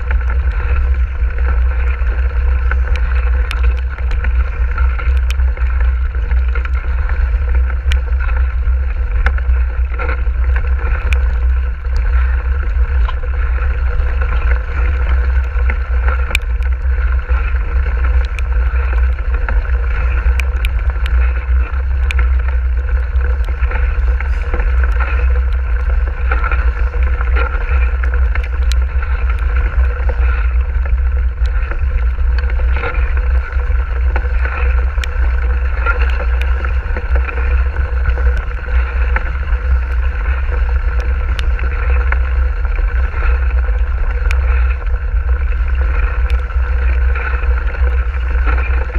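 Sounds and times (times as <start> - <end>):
bike clicks and rattles: 0.0 - 48.9
wind and ride rumble: 0.0 - 48.9.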